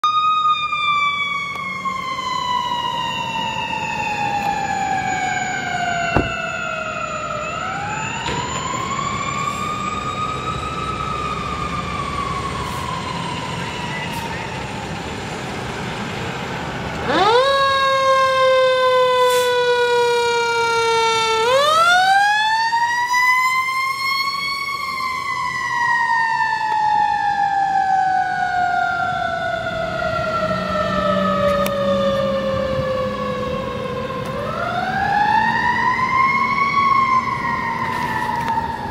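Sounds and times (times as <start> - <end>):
fire engine siren wailing: 0.0 - 38.9.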